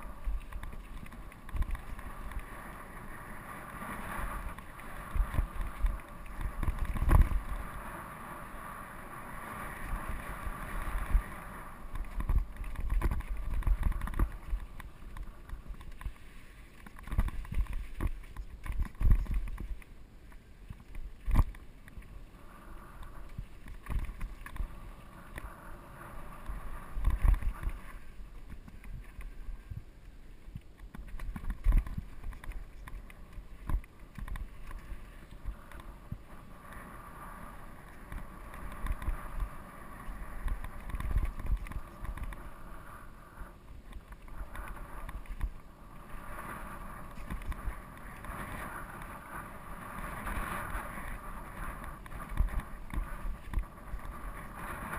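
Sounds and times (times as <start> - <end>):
bike tyres on dirt and rock: 0.0 - 54.9
wind rumble on microphone: 0.0 - 54.9.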